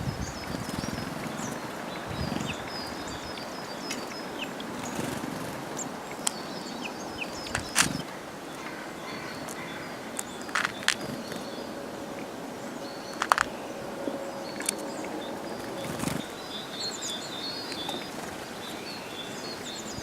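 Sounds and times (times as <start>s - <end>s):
birds calling and chipping: 0.0s - 20.0s
steady background hiss: 0.0s - 20.0s.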